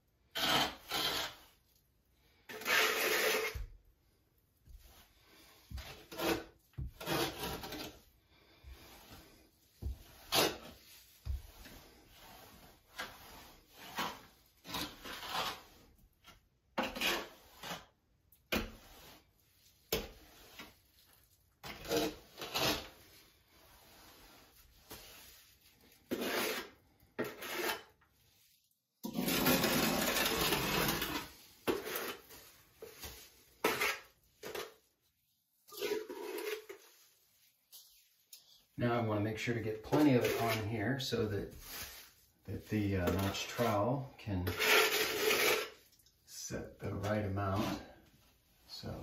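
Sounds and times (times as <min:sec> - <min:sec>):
trowel scraping mortar on wall: 0:00.2 - 0:03.9, 0:04.7 - 0:37.2, 0:39.0 - 0:48.1.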